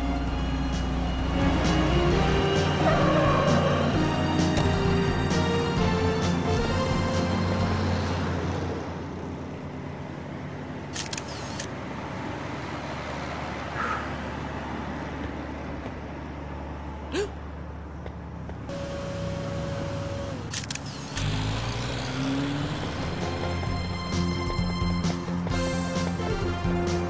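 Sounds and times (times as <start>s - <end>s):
car engine revving: 0.0s - 27.0s
street traffic rumble: 0.0s - 27.0s.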